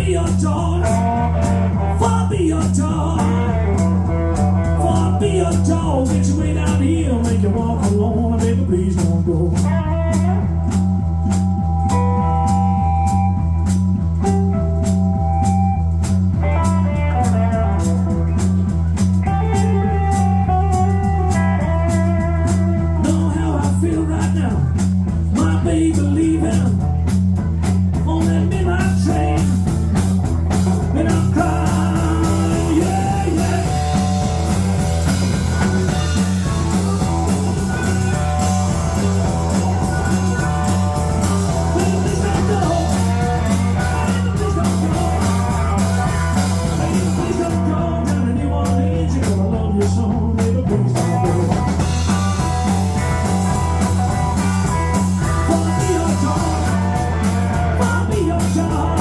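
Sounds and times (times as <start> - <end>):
blues-rock band playing: 0.0 - 59.0.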